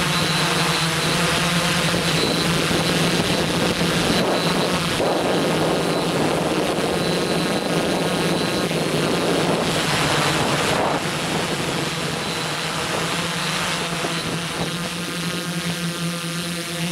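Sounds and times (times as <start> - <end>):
wind rushing over microphone: 0.0 - 15.6
quadcopter propellers buzzing: 0.0 - 16.9.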